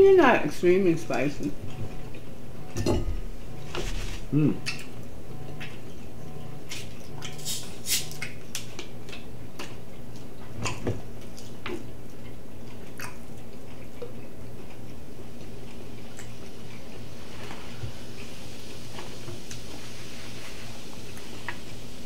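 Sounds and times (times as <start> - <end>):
steady low hum: 0.0 - 22.0
chewing and wet mouth sounds: 1.4 - 20.0.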